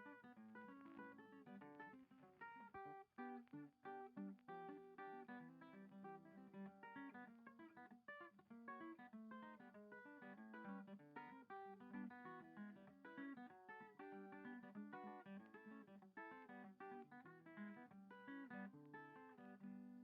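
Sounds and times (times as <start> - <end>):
picked guitar music: 0.0 - 20.0.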